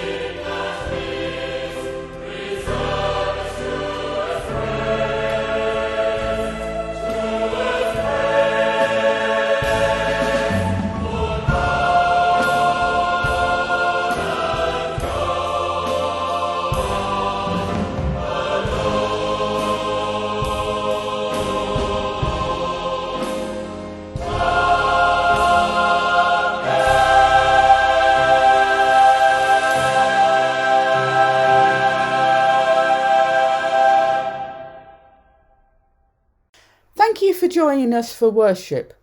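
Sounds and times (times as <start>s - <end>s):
choir singing worship song: 0.0s - 35.2s.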